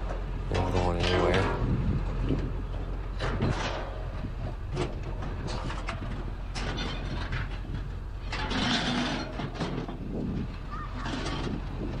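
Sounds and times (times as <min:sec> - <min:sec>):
steady low rumble: 0:00.0 - 0:10.7.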